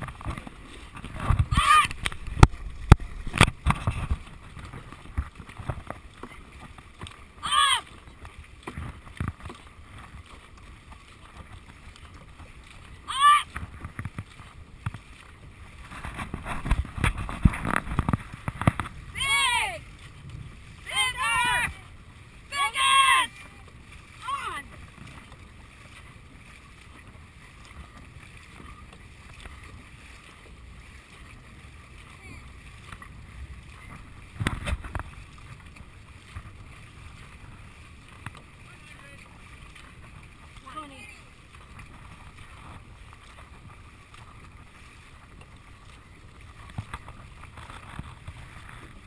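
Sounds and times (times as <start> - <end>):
paddles stroking water: 0.0 - 49.0
wind rumbling on microphone: 0.0 - 49.0.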